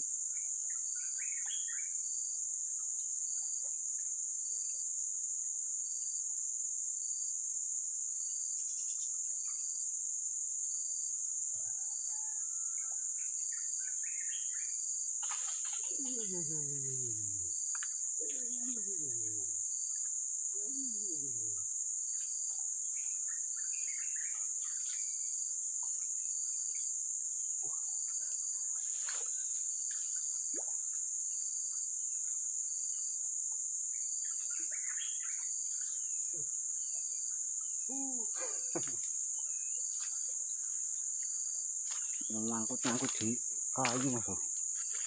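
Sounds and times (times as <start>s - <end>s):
insect chorus: 0.0s - 45.0s.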